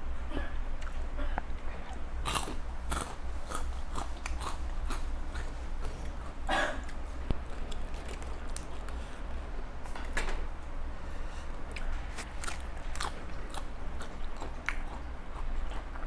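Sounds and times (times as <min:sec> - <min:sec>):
steady low hum: 0:00.0 - 0:16.0
person chewing and crunching food: 0:00.8 - 0:16.0.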